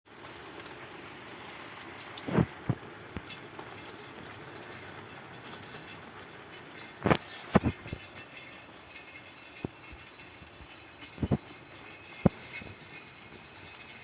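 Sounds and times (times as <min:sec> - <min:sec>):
light rain hissing: 0:00.1 - 0:14.0.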